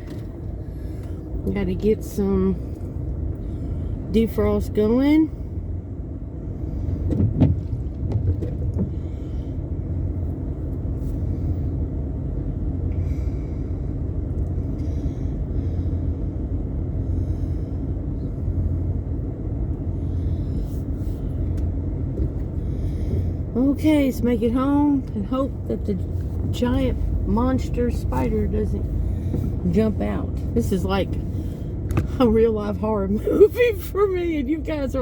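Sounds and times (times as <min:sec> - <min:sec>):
car defrost fan blowing: 0:00.0 - 0:35.0.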